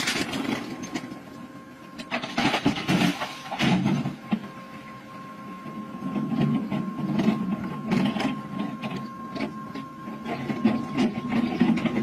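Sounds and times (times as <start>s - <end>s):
rail cart wheels clattering on track: 0.0s - 1.3s, 2.0s - 4.5s, 6.0s - 12.0s.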